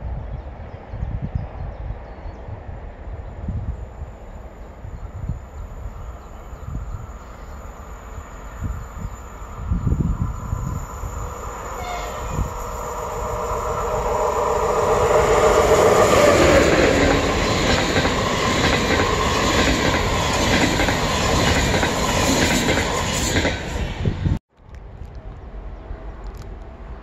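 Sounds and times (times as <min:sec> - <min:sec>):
electric locomotive hum: 0:00.6 - 0:24.4.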